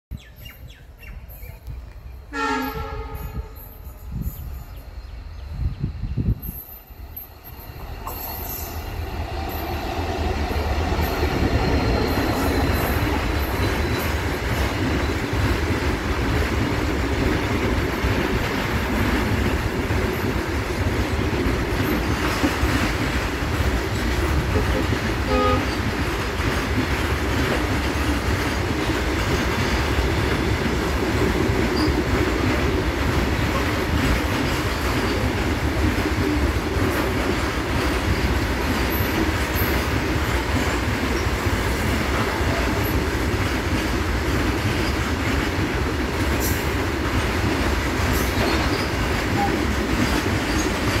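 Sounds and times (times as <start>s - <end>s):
freight train wheels rumbling on rail: 0.1s - 51.0s.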